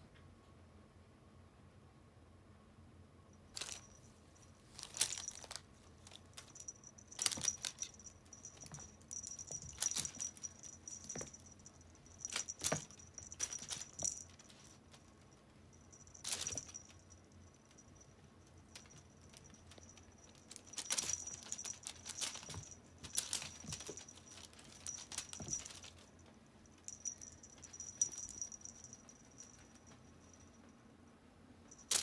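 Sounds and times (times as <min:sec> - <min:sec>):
faint high ringing: 0:03.2 - 0:32.0
small bell jingling: 0:03.5 - 0:30.7, 0:31.7 - 0:32.0.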